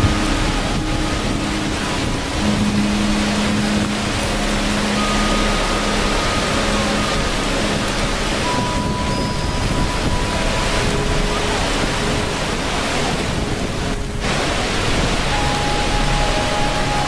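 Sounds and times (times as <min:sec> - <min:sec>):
faint long held tones: 0:00.0 - 0:17.0
rushing water: 0:00.0 - 0:17.0.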